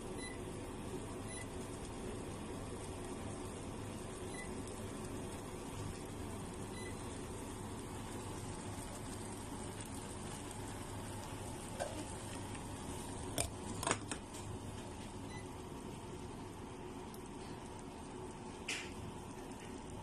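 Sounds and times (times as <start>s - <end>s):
induction cooktop hum and hiss: 0.0s - 20.0s.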